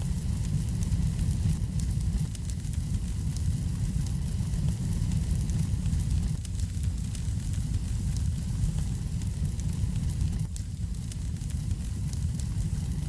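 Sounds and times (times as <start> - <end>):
fire flames rumbling: 0.0 - 13.0.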